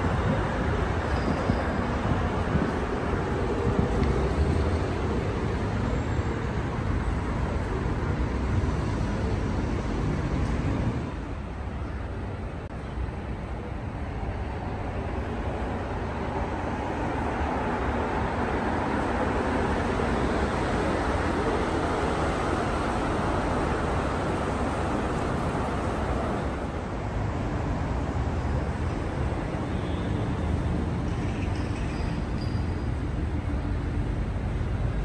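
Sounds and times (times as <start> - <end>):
city street traffic rumble: 0.0 - 35.0.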